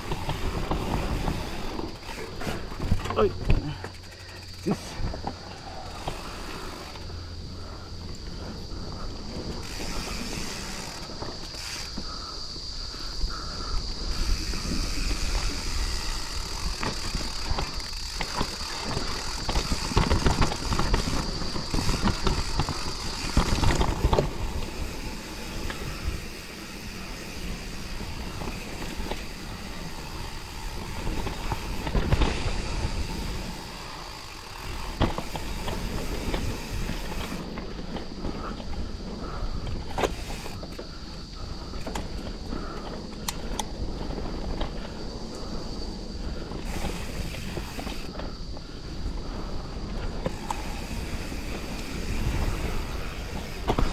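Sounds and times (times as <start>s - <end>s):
bike tyre and frame rattle: 0.0s - 53.9s.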